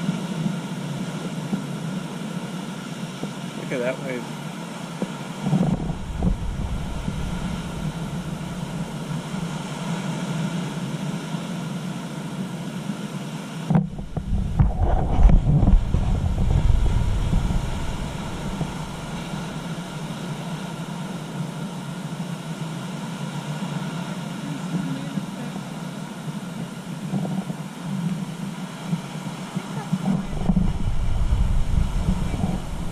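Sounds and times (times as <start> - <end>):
surf breaking over rocks: 0.0 - 32.9
wind on microphone: 4.9 - 12.8, 13.6 - 32.9.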